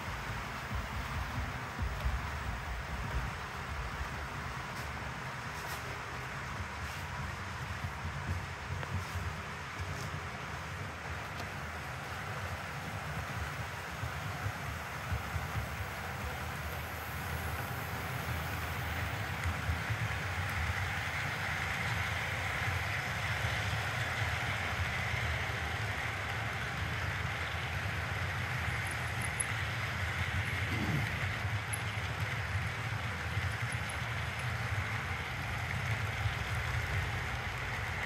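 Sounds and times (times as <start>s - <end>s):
model train wheels rumbling on rails: 0.0s - 38.0s.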